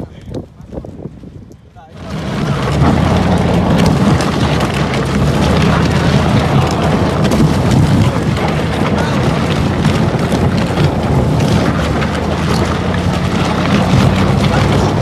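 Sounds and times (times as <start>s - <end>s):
boat hull scraping over ground: 1.9s - 15.0s.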